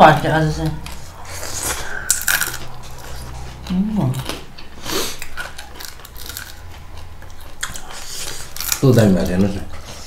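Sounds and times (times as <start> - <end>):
chewing and mouth sounds: 0.6 - 10.0.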